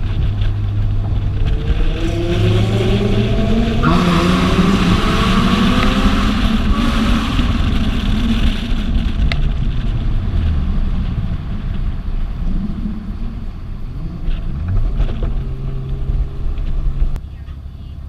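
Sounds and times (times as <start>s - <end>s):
car engine: 0.0s - 18.0s
road noise: 0.0s - 18.0s.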